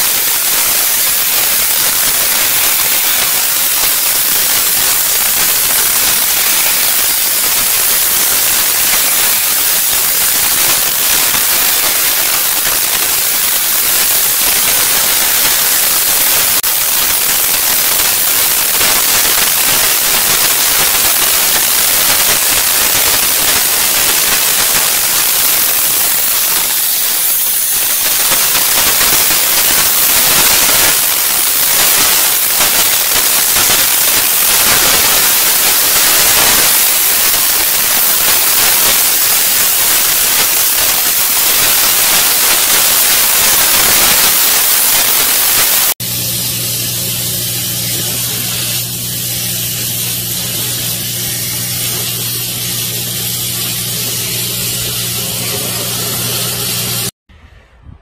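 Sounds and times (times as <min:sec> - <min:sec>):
steam cleaner hissing: 0:00.0 - 0:57.2.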